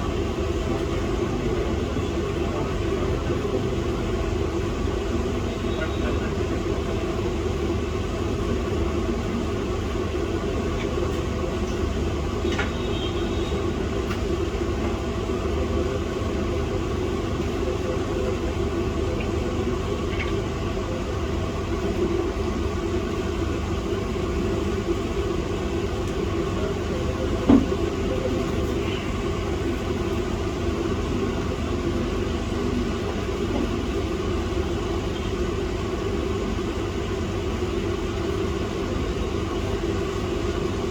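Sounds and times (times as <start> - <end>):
mechanical hum with low rumble: 0.0 - 40.9.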